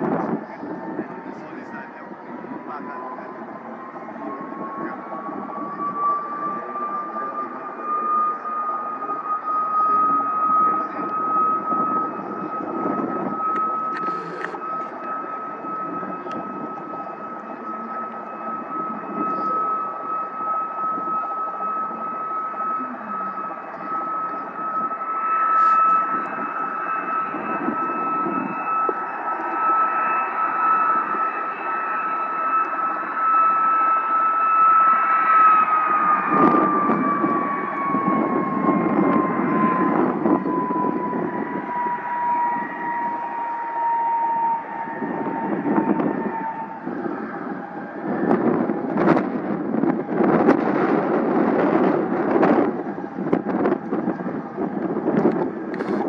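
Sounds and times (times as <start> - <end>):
jet engine whine and roar: 0.0 - 56.0.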